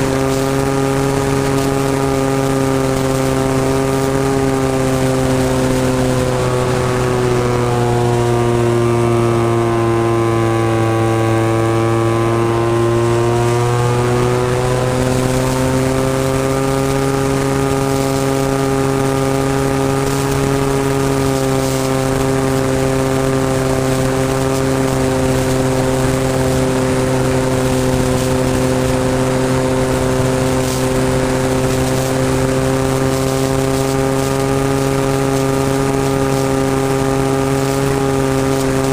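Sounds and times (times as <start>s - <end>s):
model airplane engine running: 0.0s - 38.9s.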